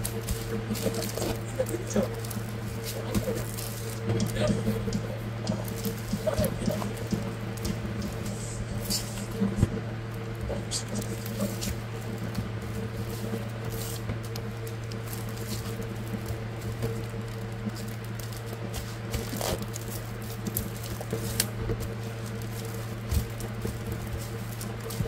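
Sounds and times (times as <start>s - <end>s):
plastic sleeves crinkling: 0.0s - 25.0s
steady low hum: 0.0s - 25.0s.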